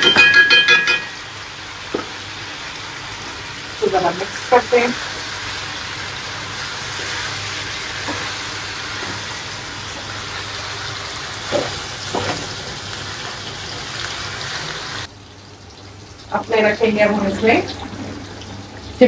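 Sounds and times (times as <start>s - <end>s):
chicken sizzling in oil: 1.0s - 19.0s.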